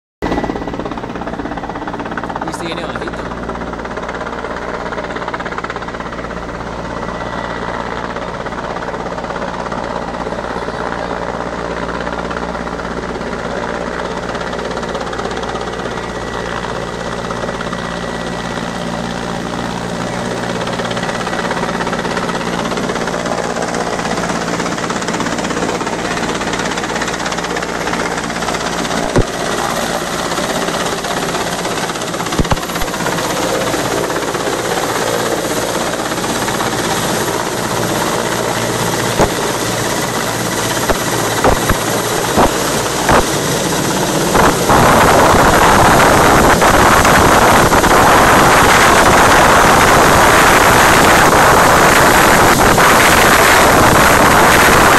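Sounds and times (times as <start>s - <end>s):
helicopter rotor and turbine: 0.2s - 54.9s.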